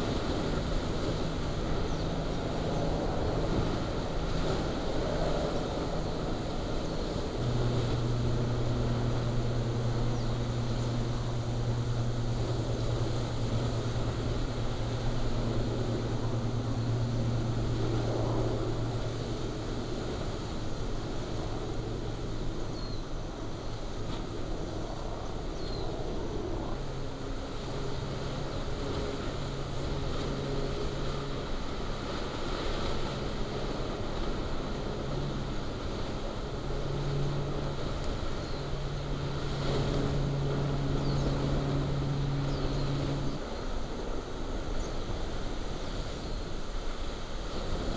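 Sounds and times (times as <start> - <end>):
low hum: 0.0 - 47.9.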